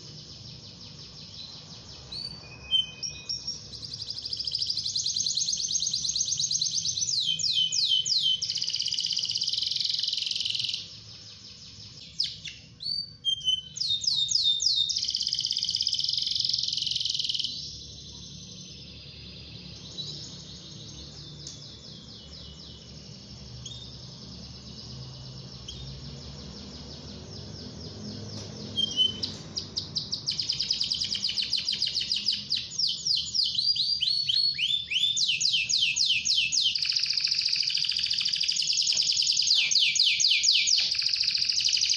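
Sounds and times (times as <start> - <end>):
canary singing trills: 0.0 - 41.9
faint bird chirps: 0.0 - 41.9.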